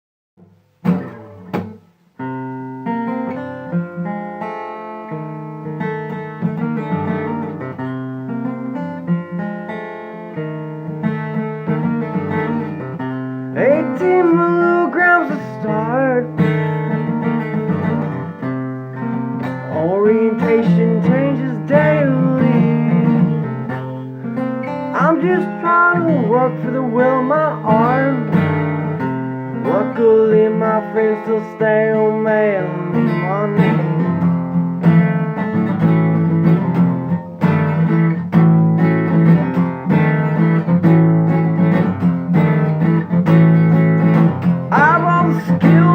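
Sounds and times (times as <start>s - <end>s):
acoustic guitar plucked chords: 0.4s - 45.9s
guitar melody with bending notes: 0.4s - 45.9s.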